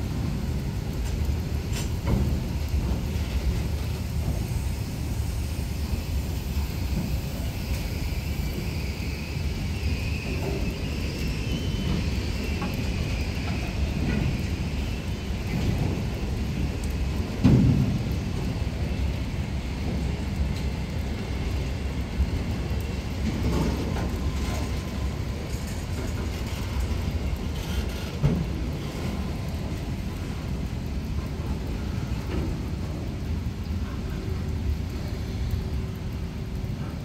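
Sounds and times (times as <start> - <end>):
freight train rumbling: 0.0 - 37.0
heavy rain: 0.0 - 37.0.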